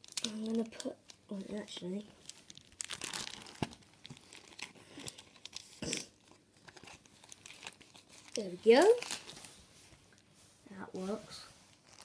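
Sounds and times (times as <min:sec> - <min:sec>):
plastic pages crinkling and rustling: 0:00.0 - 0:10.3, 0:11.0 - 0:12.0.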